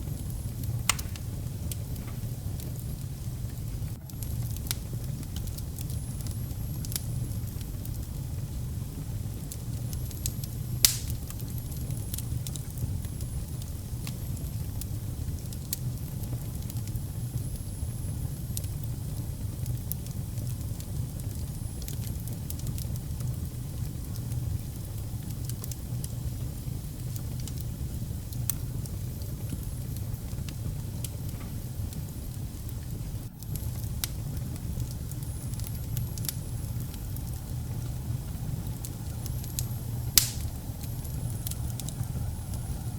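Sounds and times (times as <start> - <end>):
fire crackling and popping: 0.0 - 42.9
fire flames rumbling: 0.0 - 42.9.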